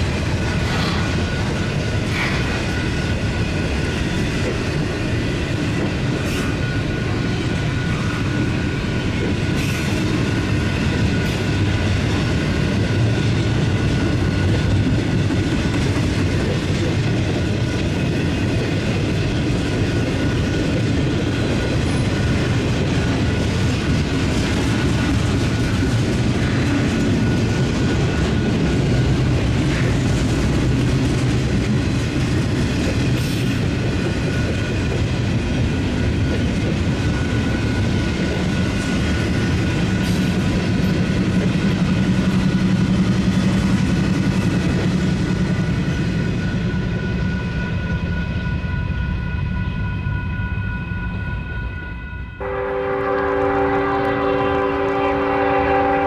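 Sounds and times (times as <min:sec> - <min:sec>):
freight train wheels on track: 0:00.0 - 0:56.0.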